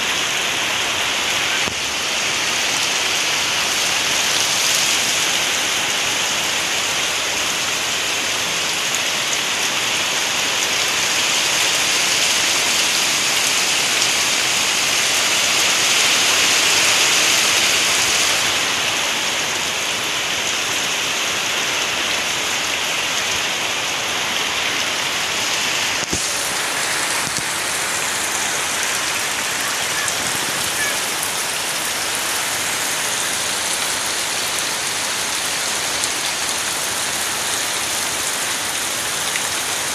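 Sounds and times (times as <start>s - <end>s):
heavy rain on leaves: 0.0s - 39.9s
water streaming off roof: 0.0s - 39.9s.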